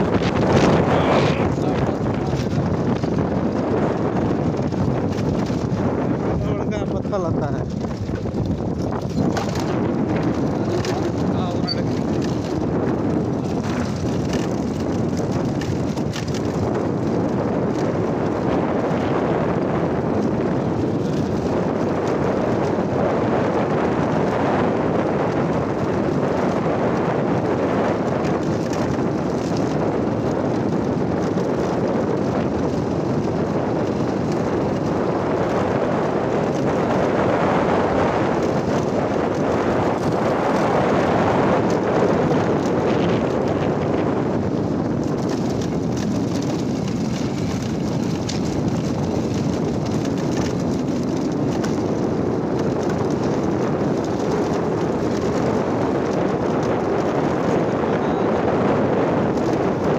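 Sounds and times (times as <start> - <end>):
vehicle riding over gravel: 0.0 - 59.9
wind rush on microphone: 0.0 - 59.9.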